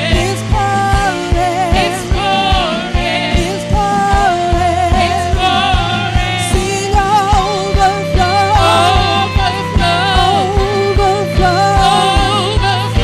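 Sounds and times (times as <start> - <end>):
drum kit beat: 0.0 - 13.0
keyboard: 0.0 - 13.0
low bass notes: 0.0 - 13.0
woman singing with vibrato: 0.0 - 13.0.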